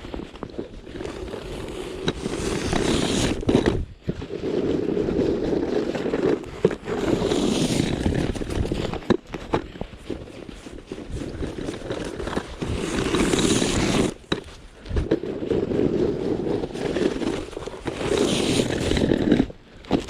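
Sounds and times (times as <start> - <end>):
snow shovel scraping pavement: 0.0 - 20.0.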